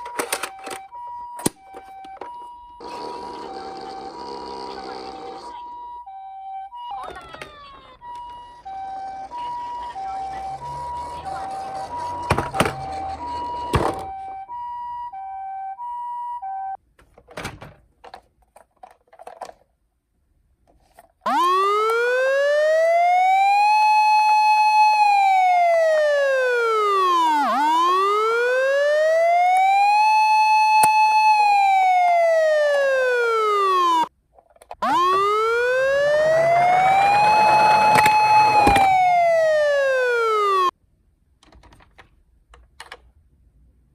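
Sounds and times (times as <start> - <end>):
two-note toy siren: 0.0 - 16.8, 21.3 - 34.1, 34.8 - 40.7
wailing siren: 0.0 - 16.8, 21.3 - 34.1, 34.8 - 40.7.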